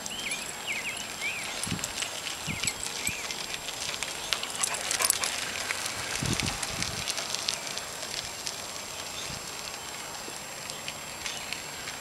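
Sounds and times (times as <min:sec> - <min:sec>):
small birds chirping: 0:00.0 - 0:05.4, 0:07.5 - 0:12.0
power wheelchair rolling past: 0:00.0 - 0:12.0
crackling clicks: 0:01.4 - 0:12.0.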